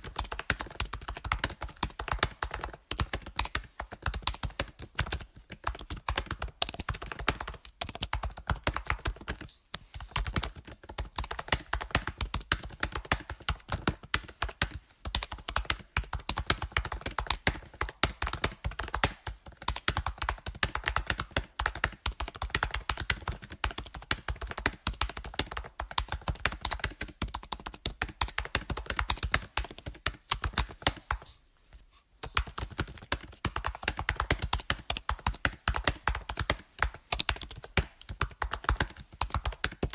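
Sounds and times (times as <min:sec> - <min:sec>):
computer keyboard typing: 0:00.0 - 0:09.5, 0:10.1 - 0:31.2, 0:32.2 - 0:39.9.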